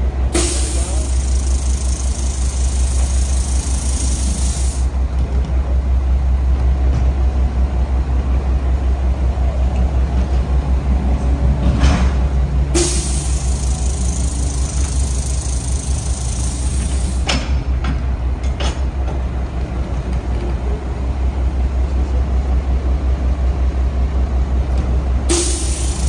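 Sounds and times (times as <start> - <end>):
diesel truck engine idling: 0.0 - 11.4, 12.3 - 26.0.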